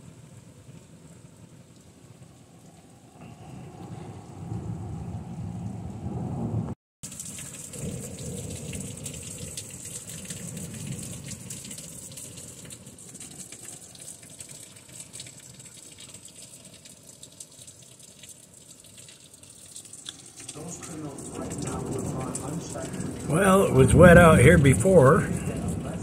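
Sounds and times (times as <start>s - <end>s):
freezing rain hissing and tapping: 0.0s - 6.0s, 7.0s - 26.0s.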